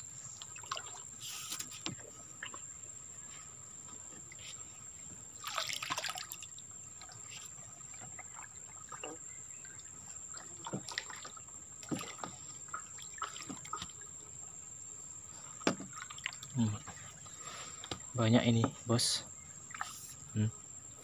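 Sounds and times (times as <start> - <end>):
water trickling and dripping: 0.2 - 20.4.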